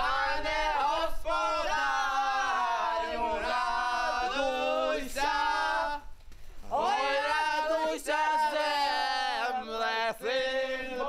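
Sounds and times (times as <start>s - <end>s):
voices singing chant-like melody: 0.0s - 11.0s.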